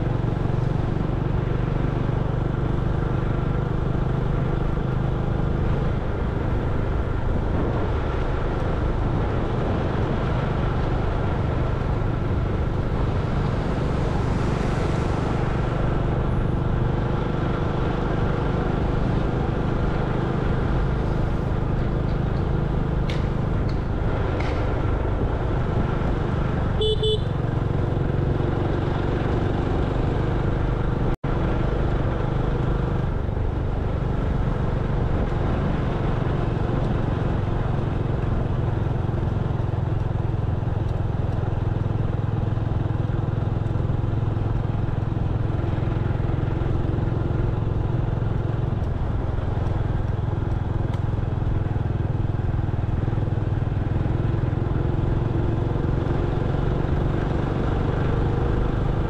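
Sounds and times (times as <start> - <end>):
motorcycle engine running: 0.0 - 59.0
road noise: 0.0 - 59.0.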